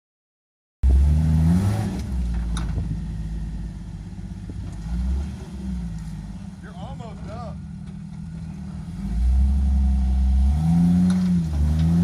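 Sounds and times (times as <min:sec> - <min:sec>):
off-road vehicle engine revving: 0:00.8 - 0:12.0.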